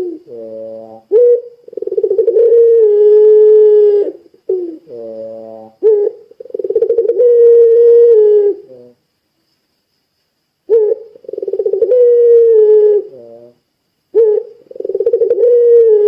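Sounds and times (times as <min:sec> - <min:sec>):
dove cooing: 0:00.0 - 0:09.0, 0:10.7 - 0:16.0.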